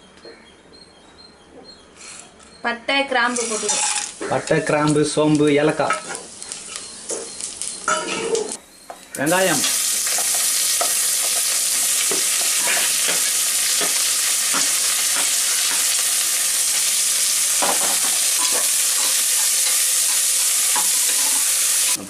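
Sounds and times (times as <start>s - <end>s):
onions sizzling in oil: 3.4s - 22.0s.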